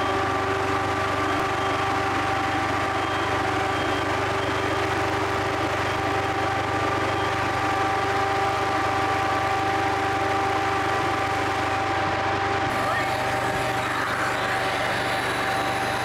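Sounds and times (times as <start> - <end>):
fire engine droning: 0.0 - 16.0
pump whine: 0.0 - 16.0.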